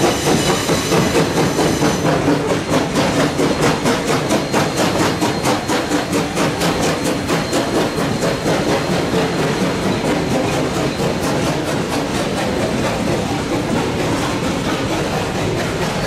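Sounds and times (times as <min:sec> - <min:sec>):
steam locomotive exhaust chuffing: 0:00.0 - 0:16.0
train wheels running over rails: 0:00.0 - 0:16.0.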